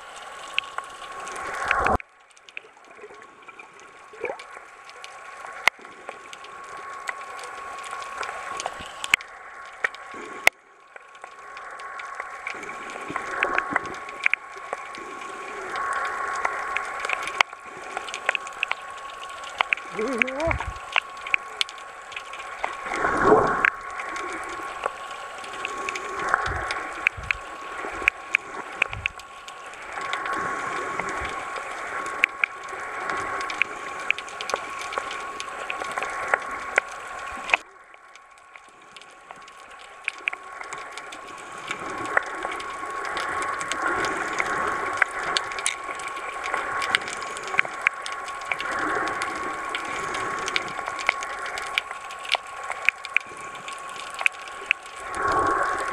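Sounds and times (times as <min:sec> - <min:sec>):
underwater crackling clicks: 0:00.2 - 0:55.9.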